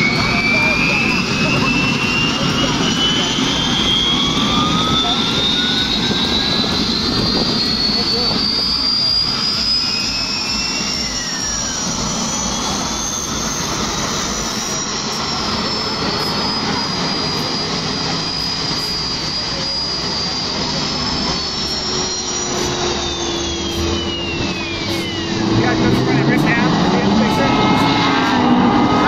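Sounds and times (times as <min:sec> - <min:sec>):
jet engine roaring with whine: 0:00.0 - 0:29.0.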